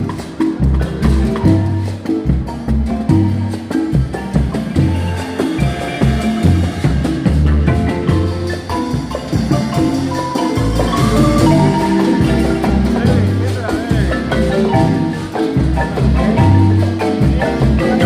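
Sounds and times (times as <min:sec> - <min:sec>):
marimba ensemble playing: 0:00.0 - 0:18.0.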